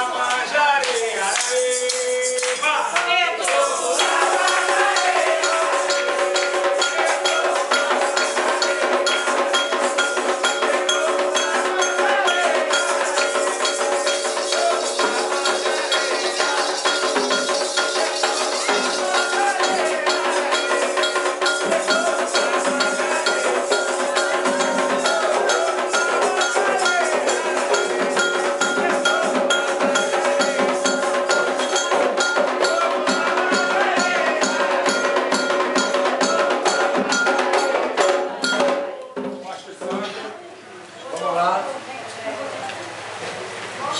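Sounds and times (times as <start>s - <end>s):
fast percussion with rattles: 0.0s - 40.3s
voices chanting: 0.0s - 40.3s
clicking wood block beat: 0.3s - 39.4s.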